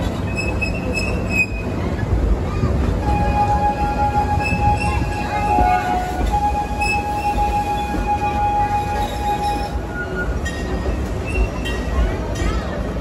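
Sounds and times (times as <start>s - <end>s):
train wheels squealing on rails: 0.0s - 2.2s, 3.0s - 12.8s
rumble of train cars: 0.0s - 13.0s.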